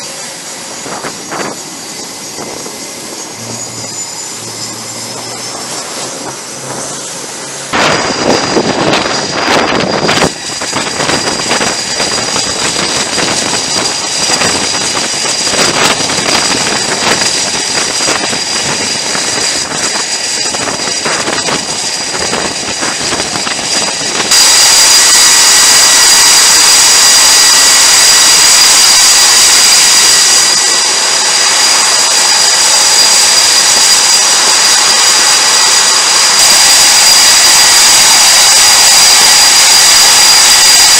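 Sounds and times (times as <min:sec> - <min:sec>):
high-pitched turbine whine: 0:00.0 - 0:40.9
jet engines roaring: 0:00.0 - 0:40.9.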